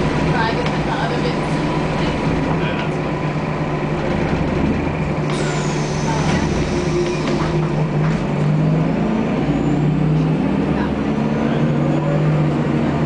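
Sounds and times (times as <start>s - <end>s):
bus engine drone from inside: 0.0s - 13.0s.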